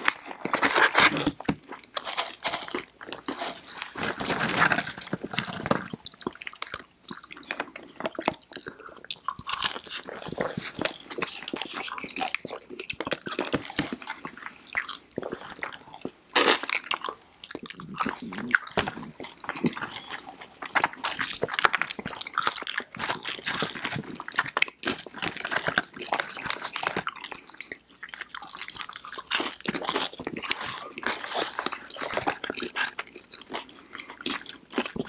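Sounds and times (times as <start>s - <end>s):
crunching bites and chewing: 0.0s - 35.0s.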